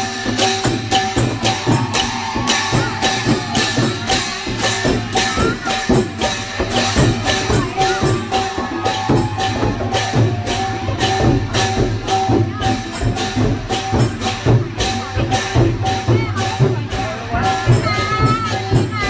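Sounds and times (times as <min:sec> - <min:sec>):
drums: 0:00.0 - 0:19.0.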